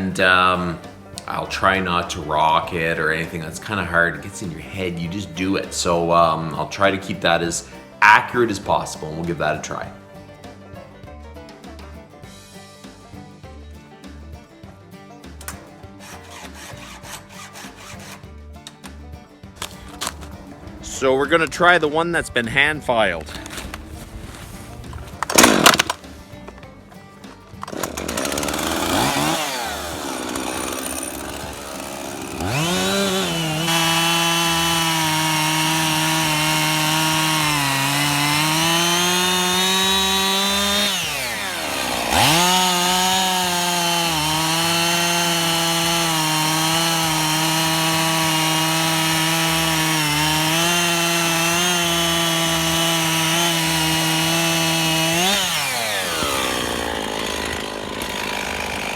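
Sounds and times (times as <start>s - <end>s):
chainsaw cutting wood: 0.0s - 8.6s, 15.4s - 19.0s, 19.6s - 21.5s, 23.2s - 26.8s, 27.4s - 58.9s.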